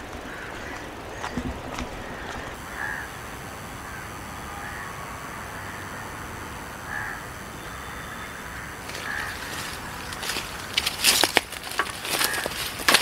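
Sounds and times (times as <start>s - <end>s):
bird calls: 0.0s - 13.0s
outdoor background hiss: 0.0s - 13.0s.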